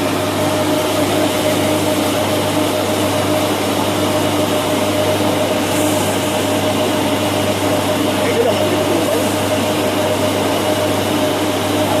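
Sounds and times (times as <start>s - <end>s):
rice milling machine drone: 0.0s - 12.0s.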